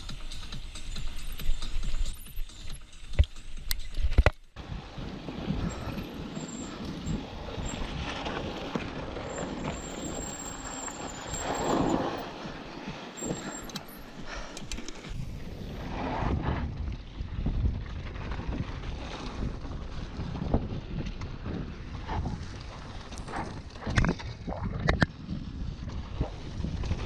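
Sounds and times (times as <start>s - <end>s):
bike rattling: 0.0s - 23.9s
bike tyres rolling on loose ground: 4.6s - 24.5s, 25.1s - 27.0s.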